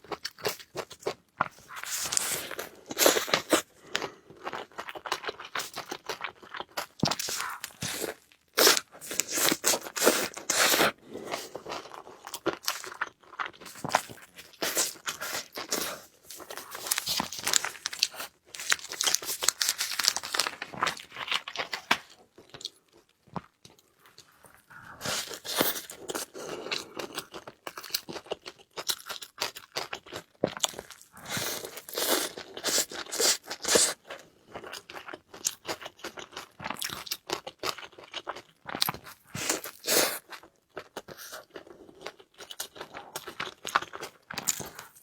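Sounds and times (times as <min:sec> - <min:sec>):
person crunching and chewing food: 0:00.0 - 0:45.0.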